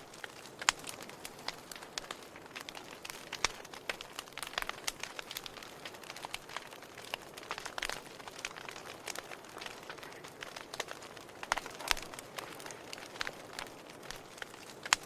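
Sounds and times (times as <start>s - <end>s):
hiss of burning logs: 0.0s - 15.0s
wood fire crackling: 0.0s - 15.0s.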